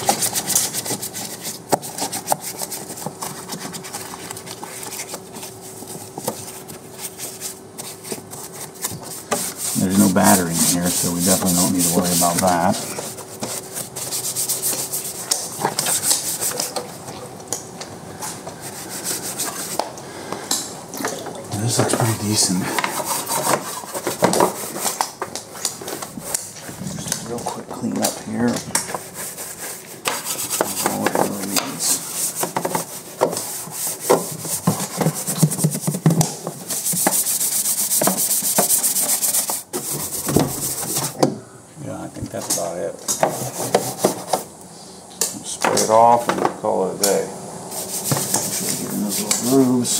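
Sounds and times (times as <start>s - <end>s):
brush scrubbing wet plastic: 0.0s - 17.3s, 18.5s - 19.8s, 21.6s - 41.2s, 42.3s - 44.5s, 47.7s - 49.9s.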